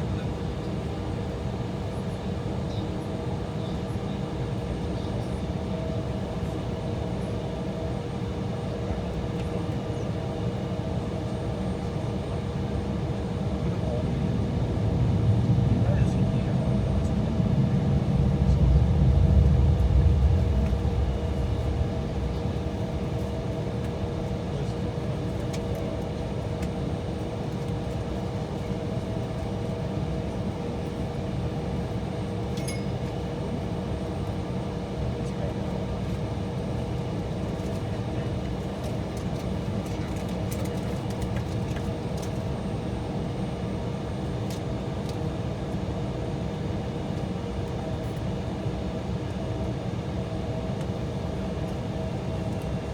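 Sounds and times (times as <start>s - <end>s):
low jet rumble: 0.0s - 42.4s, 49.0s - 52.9s
jet engine hum in cabin: 0.0s - 52.9s.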